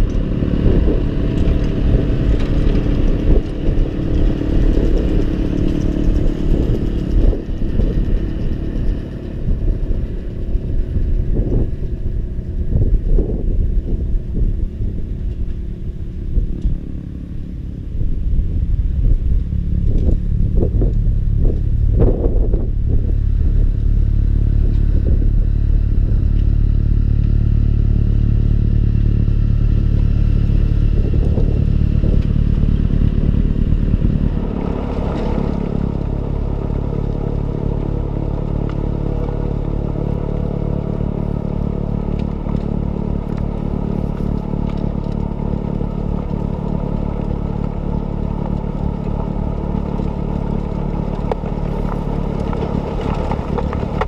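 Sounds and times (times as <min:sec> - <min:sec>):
rough engine clatter: 0:00.0 - 0:54.0
tractor diesel engine running: 0:00.0 - 0:54.0.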